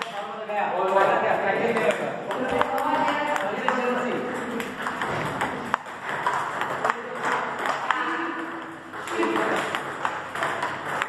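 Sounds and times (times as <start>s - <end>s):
ball clicking off paddles: 0.8s - 11.0s
ball bouncing on table: 1.8s - 11.0s.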